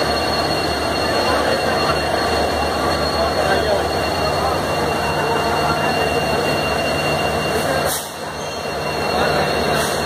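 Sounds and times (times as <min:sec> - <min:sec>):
locomotive running: 0:00.0 - 0:10.0.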